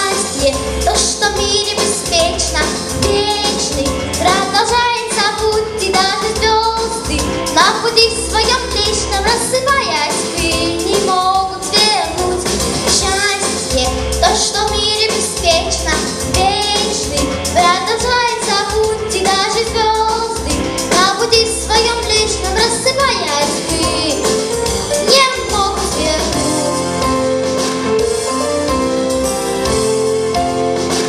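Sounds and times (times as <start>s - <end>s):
girl singing pop song: 0.0s - 27.2s
backing track with keyboard: 0.0s - 31.0s.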